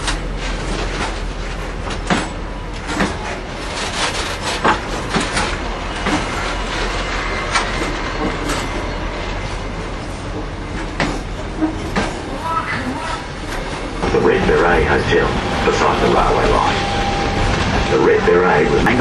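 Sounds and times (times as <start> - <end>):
train carriage rumbling: 0.0 - 19.0
wheels clacking over rails: 0.0 - 19.0.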